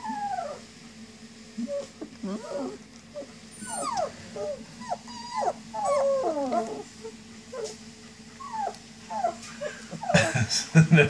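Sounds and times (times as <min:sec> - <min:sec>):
puppies whining and whimpering: 0:00.0 - 0:00.7, 0:01.6 - 0:10.3.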